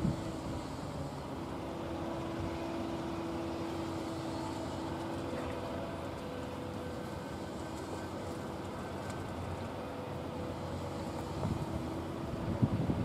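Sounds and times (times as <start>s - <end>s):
electronic horn siren low tone: 0.0s - 13.0s.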